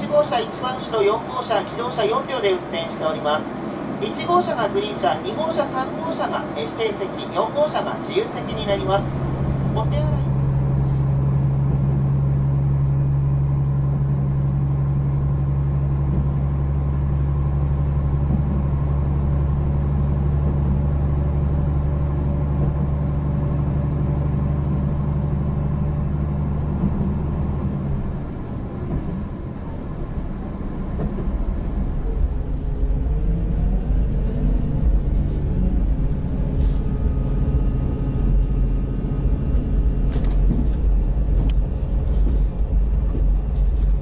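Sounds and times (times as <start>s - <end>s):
diesel train engine drone: 0.0s - 44.0s.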